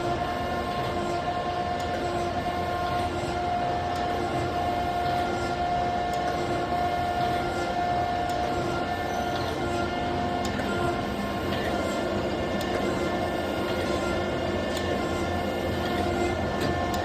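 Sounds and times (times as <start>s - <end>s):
grinder spindle whine: 0.0s - 17.0s
machine hum: 0.0s - 17.0s.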